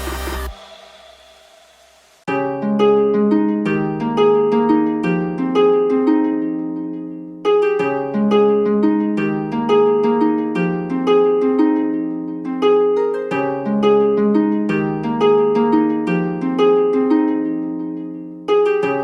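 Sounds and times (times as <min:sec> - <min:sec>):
plucked notes melody: 0:02.3 - 0:19.0.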